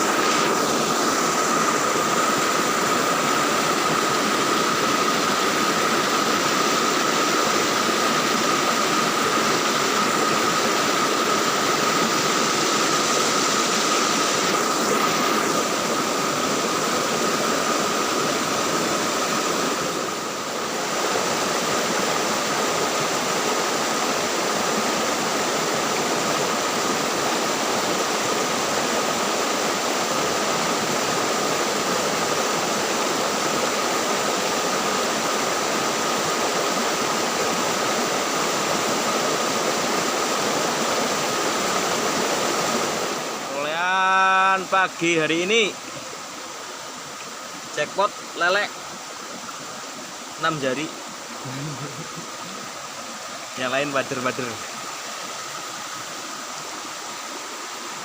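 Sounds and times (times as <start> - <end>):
rushing flowing water: 0.0 - 58.0.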